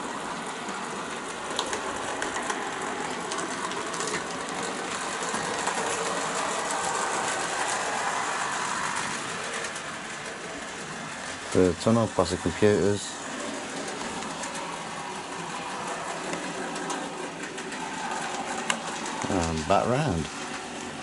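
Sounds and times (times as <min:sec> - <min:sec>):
model train motor whir: 0:00.0 - 0:21.0
wheels clicking over rail joints: 0:00.0 - 0:21.0.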